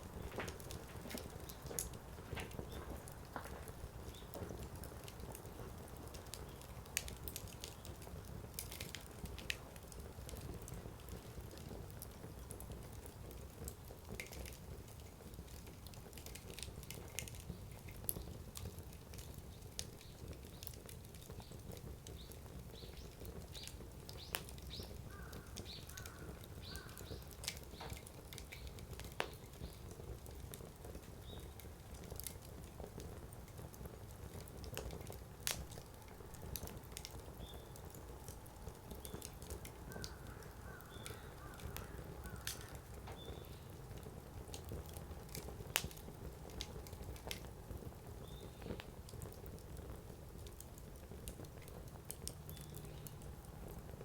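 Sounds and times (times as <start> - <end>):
low fire rumble: 0.0 - 54.0
wood fire crackling and popping: 0.0 - 54.0.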